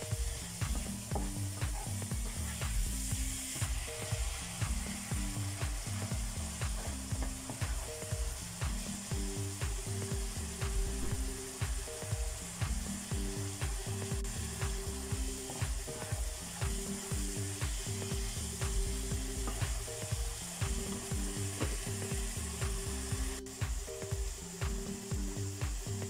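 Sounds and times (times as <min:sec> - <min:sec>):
food sizzling in oil: 0:00.0 - 0:26.0
low background music: 0:00.0 - 0:26.0.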